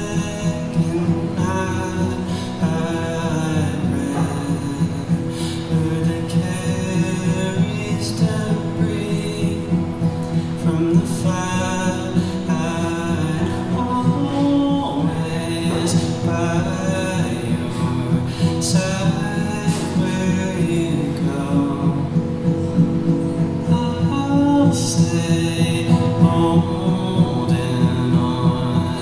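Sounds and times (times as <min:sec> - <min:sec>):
acoustic guitar: 0:00.0 - 0:29.0
man singing: 0:00.0 - 0:29.0.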